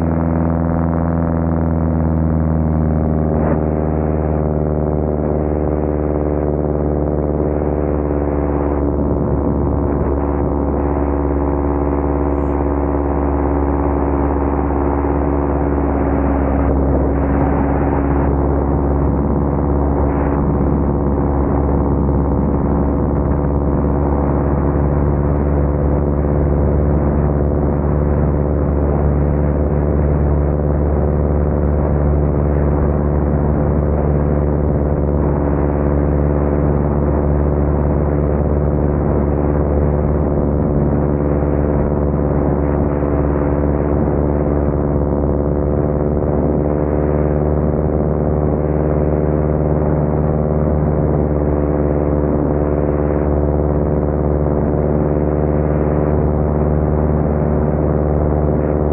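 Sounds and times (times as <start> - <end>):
propeller plane engine drone: 0.0 - 58.9.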